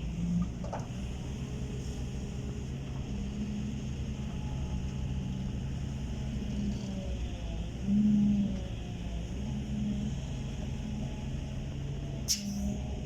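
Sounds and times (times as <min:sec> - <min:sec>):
heavy diesel engine droning: 0:00.0 - 0:13.0.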